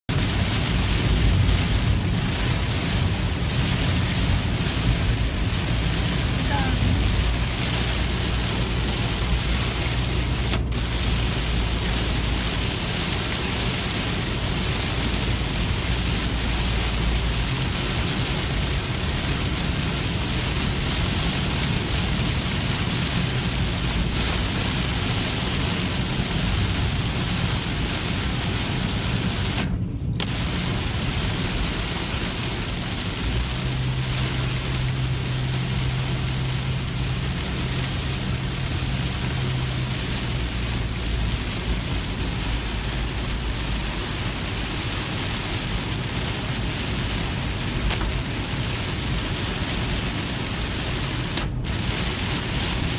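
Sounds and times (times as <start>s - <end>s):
heavy rain on car roof: 0.0s - 52.9s
road and engine drone: 0.0s - 52.9s.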